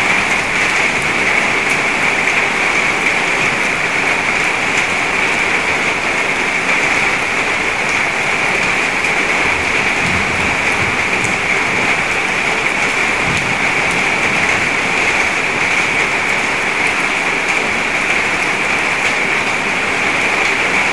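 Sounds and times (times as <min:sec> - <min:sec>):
rain splashing into puddle: 0:00.0 - 0:20.9.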